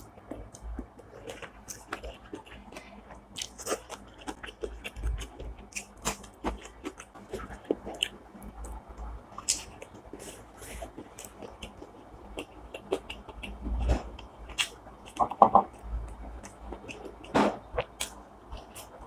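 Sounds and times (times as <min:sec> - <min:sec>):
person chewing and crunching food: 0:00.0 - 0:19.0.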